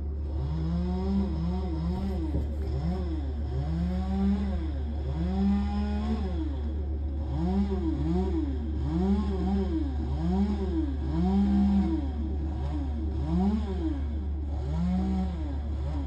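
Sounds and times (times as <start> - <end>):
brush chipper droning: 0.0 - 16.0
small engine revving: 0.0 - 16.0.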